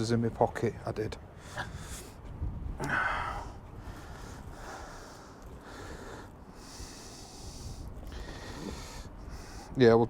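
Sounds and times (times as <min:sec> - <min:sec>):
man breathing and sniffing: 0:01.4 - 0:09.8.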